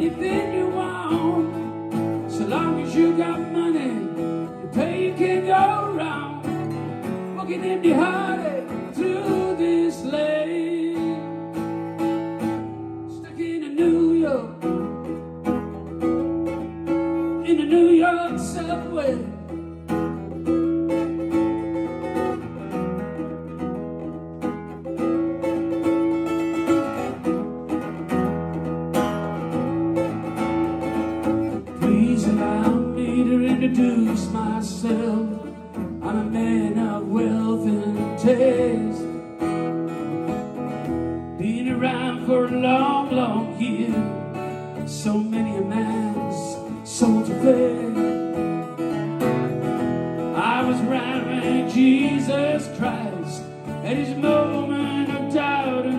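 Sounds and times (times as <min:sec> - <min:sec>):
acoustic guitar playing: 0:00.0 - 0:55.9.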